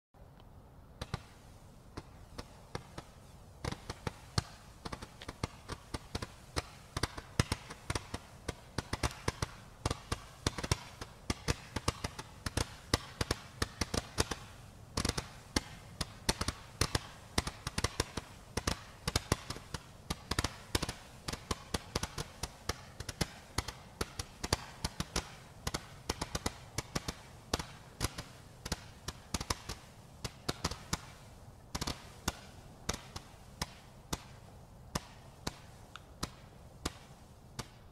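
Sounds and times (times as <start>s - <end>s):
firework popping: 1.0s - 37.9s.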